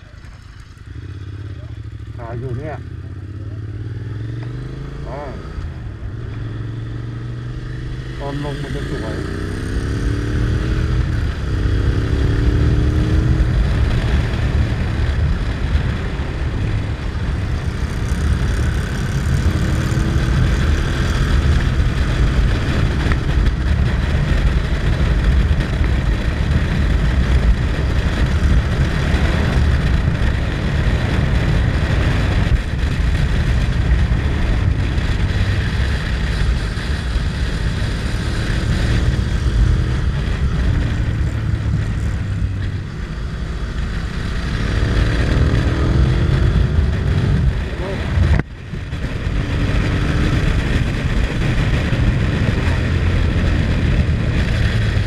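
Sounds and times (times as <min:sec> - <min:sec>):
motorcycle engine accelerating: 0:00.0 - 0:55.0
wind rumble on microphone: 0:00.0 - 0:55.0.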